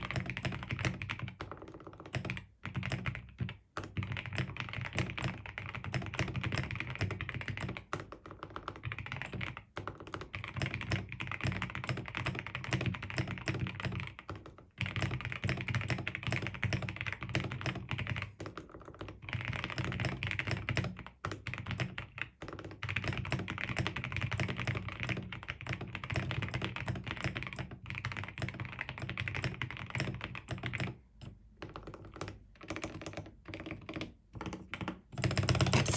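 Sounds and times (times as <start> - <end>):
typing on mechanical keyboard: 0.0 - 35.9.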